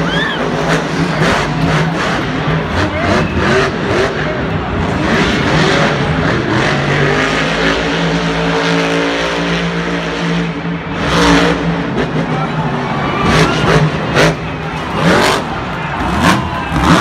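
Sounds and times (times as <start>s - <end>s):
truck engine running rough: 0.0s - 17.0s.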